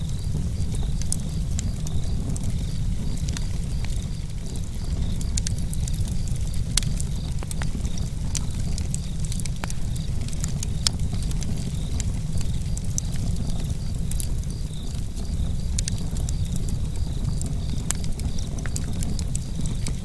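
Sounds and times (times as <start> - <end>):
campfire crackling and popping: 0.0 - 20.0
crickets chirping: 0.0 - 20.0.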